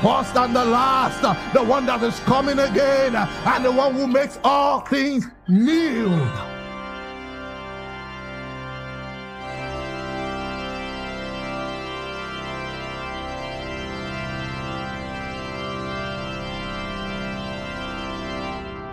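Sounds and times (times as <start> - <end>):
organ sustained chords: 0.0 - 18.9.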